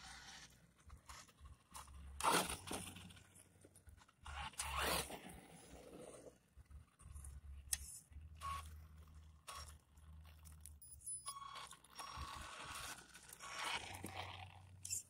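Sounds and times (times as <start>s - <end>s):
toy truck motor whirring: 0.0s - 6.4s, 7.1s - 15.0s.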